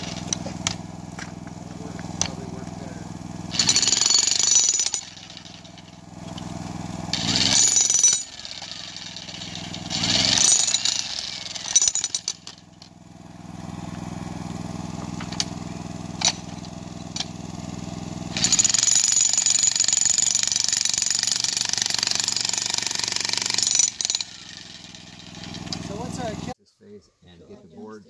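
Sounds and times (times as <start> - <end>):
jackhammer pounding rocky ground: 0.0 - 26.5.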